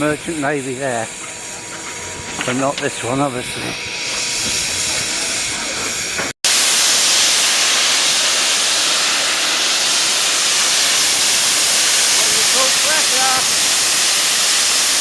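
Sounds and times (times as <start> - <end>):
locomotive steam hissing: 0.0 - 15.0.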